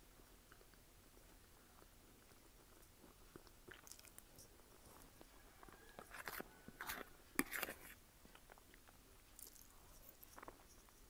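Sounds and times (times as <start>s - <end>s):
person chewing: 1.7s - 10.8s.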